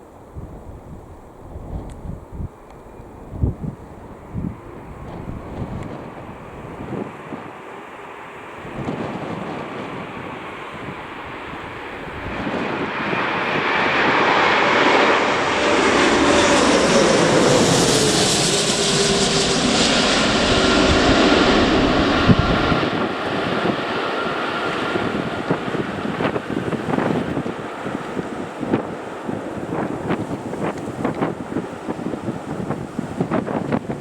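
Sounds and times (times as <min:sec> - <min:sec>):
airplane passing close by: 0:00.0 - 0:34.0.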